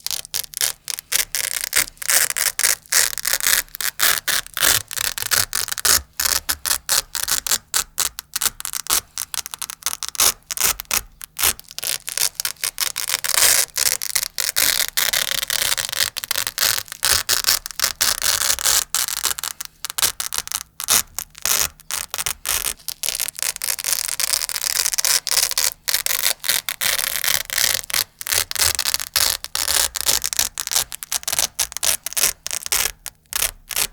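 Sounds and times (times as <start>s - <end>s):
velcro ripping: 0.0s - 33.9s.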